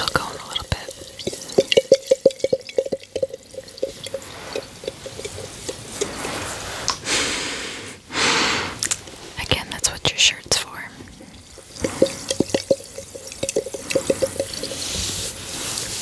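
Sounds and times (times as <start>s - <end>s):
water dripping into container: 0.0s - 7.0s, 8.8s - 16.0s
water pouring: 0.0s - 7.0s, 8.8s - 16.0s.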